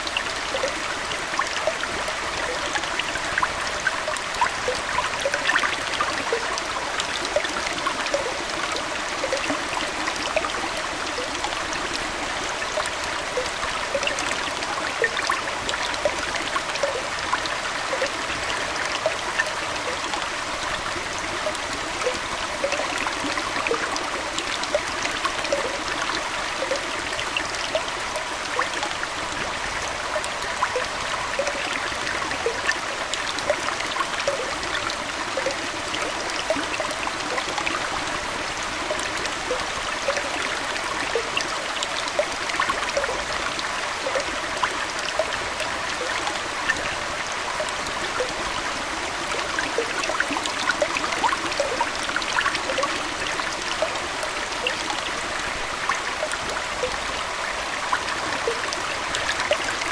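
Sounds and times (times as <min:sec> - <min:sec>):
aquarium water trickling: 0:00.0 - 0:59.9.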